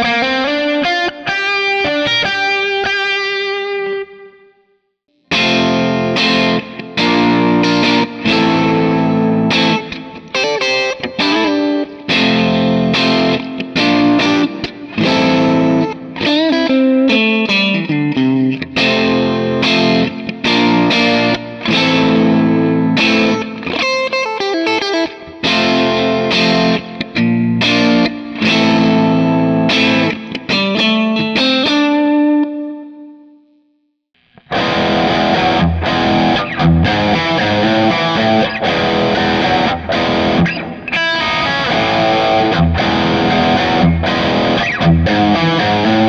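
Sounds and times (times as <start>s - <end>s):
distorted electric guitar: 0.0s - 4.6s, 5.2s - 33.3s, 34.2s - 46.0s
overdriven electric guitar riffs: 0.0s - 33.6s, 34.2s - 46.0s.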